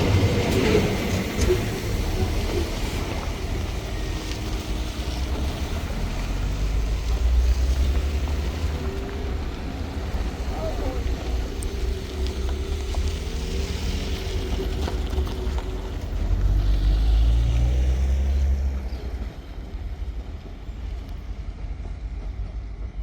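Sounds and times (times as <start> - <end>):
diesel locomotive engine rumbling: 0.0 - 23.0.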